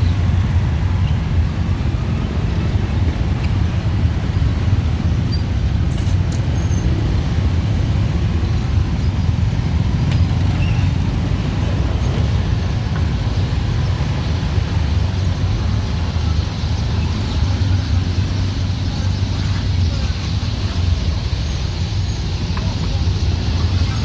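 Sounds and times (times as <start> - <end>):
dense traffic of motorbikes and cars: 0.0 - 24.0.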